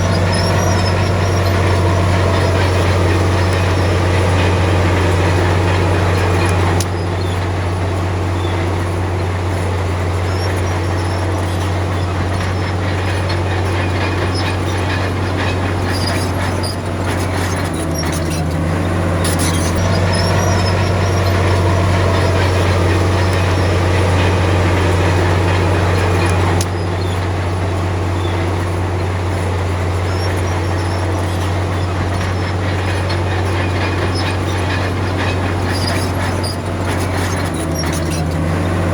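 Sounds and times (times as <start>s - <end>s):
bulldozer diesel engine: 0.0s - 38.9s
steel tracks clanking and squealing: 0.0s - 38.9s.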